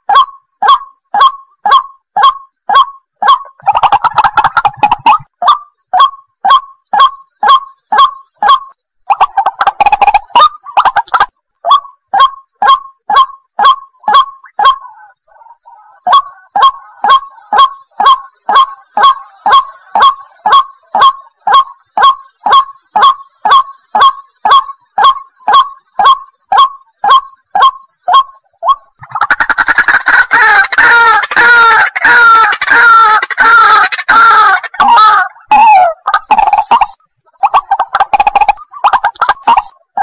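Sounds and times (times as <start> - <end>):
waterhen calling sharp notes: 0.1 - 15.0, 15.7 - 39.8.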